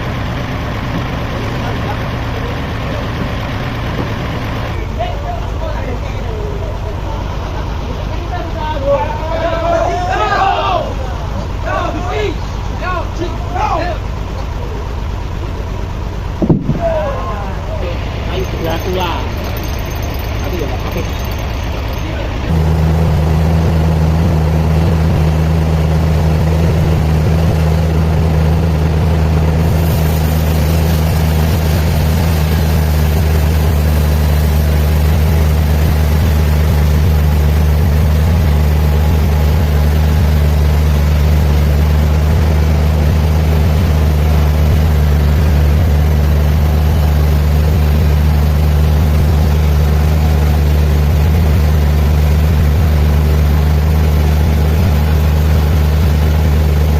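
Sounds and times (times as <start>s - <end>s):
sawmill machinery humming: 0.0s - 56.9s.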